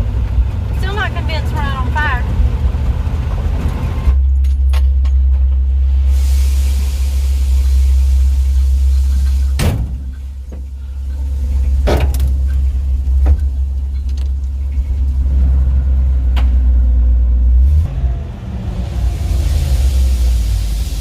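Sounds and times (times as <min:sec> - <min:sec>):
truck engine and road drone: 0:00.0 - 0:21.0.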